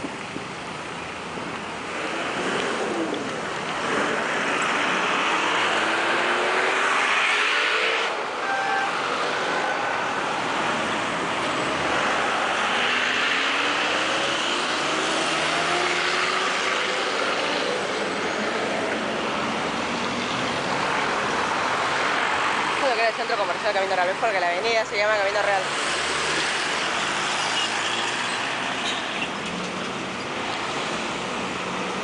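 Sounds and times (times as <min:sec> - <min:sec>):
hiss of tyres and traffic: 0:00.0 - 0:23.8, 0:25.4 - 0:32.0
cars and bus passing: 0:00.0 - 0:32.0.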